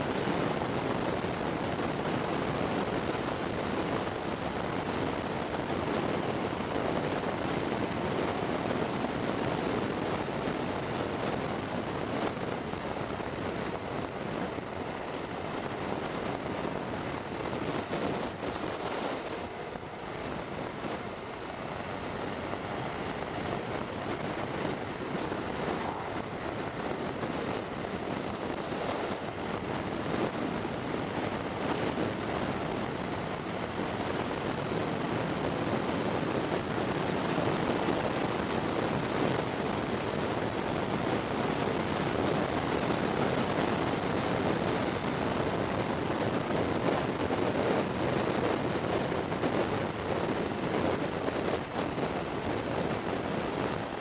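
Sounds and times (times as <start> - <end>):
motorcycle road and engine noise: 0.0 - 54.0
wind rushing over microphone: 0.0 - 54.0.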